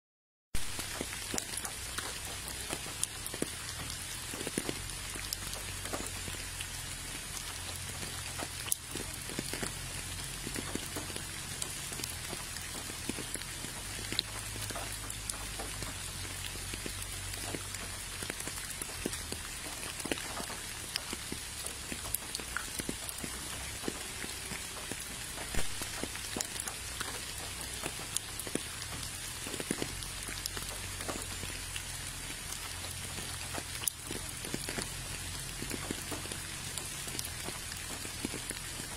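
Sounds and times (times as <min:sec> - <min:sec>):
raindrops ticking close by: 0:00.6 - 0:38.9
steady rain hiss: 0:00.6 - 0:38.9.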